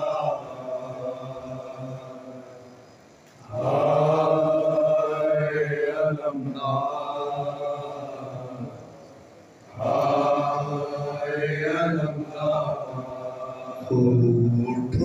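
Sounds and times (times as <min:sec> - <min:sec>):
men chanting a lament: 0:00.0 - 0:02.7, 0:03.4 - 0:09.0, 0:09.7 - 0:15.0.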